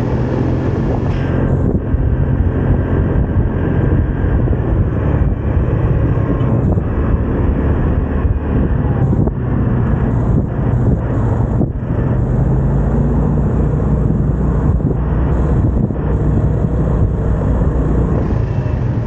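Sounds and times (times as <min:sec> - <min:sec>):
scooter engine running: 0:00.0 - 0:19.0
wind rumble on microphone: 0:00.0 - 0:19.0.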